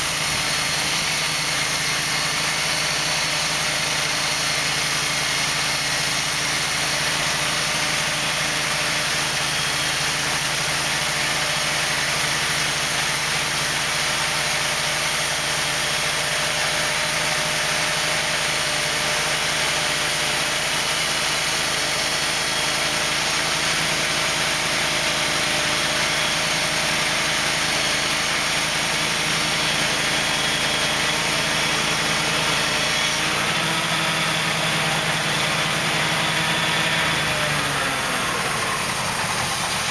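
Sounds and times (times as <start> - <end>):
band sawmill sawing a board: 0.0 - 39.9.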